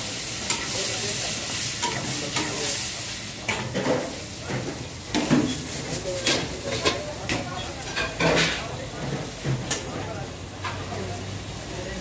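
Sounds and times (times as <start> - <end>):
food sizzling in a wok: 0.0 - 12.0
metal utensils scraping wok: 0.2 - 9.9.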